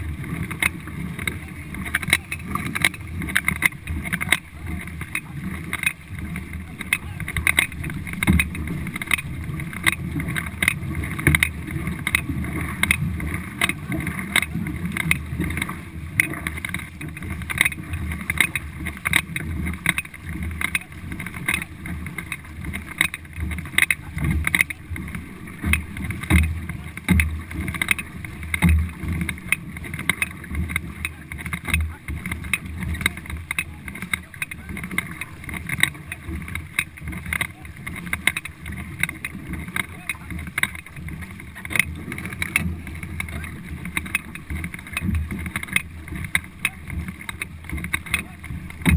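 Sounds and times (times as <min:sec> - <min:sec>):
paddle strokes knocking: 0:00.0 - 0:48.9
water rushing along hull: 0:00.0 - 0:48.9.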